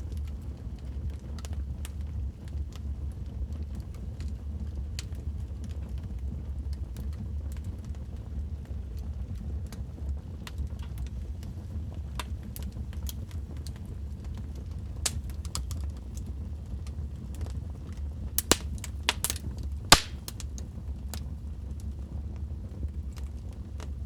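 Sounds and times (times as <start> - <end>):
wood fire crackling and popping: 0.1 - 24.0.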